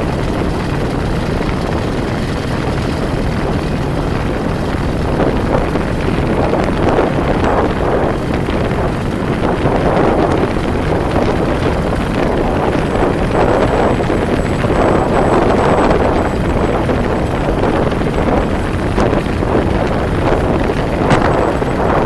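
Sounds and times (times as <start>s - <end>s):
road noise: 0.0s - 22.0s
wind buffeting microphone: 0.0s - 22.0s
wind rush: 0.0s - 22.0s.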